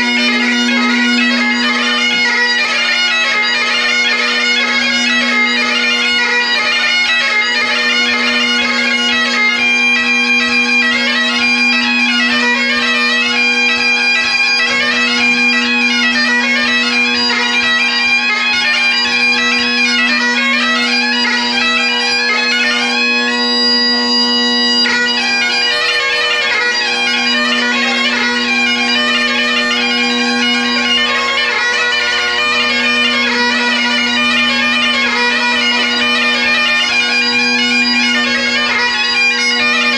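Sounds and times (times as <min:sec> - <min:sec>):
bagpipe playing melody: 0:00.0 - 0:39.9.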